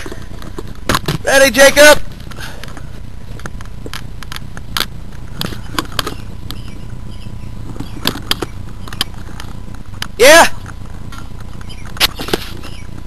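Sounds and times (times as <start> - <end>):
camera handling rumble: 0.0 - 1.3, 2.1 - 13.0.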